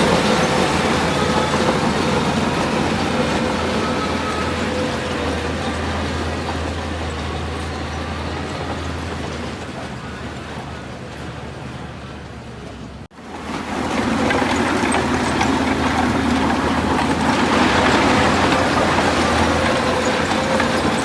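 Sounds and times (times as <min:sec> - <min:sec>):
diesel machine engine hum: 0:00.0 - 0:21.0.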